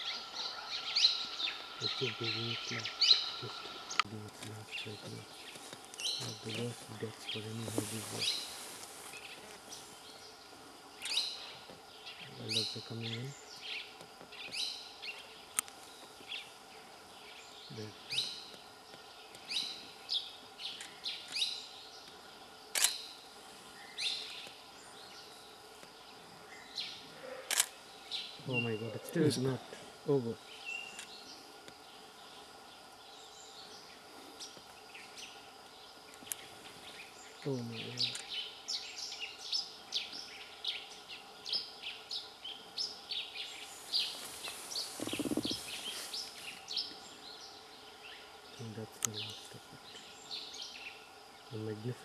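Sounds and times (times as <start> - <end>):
forest background: 0.0 - 52.0
high insect hiss: 0.0 - 52.0.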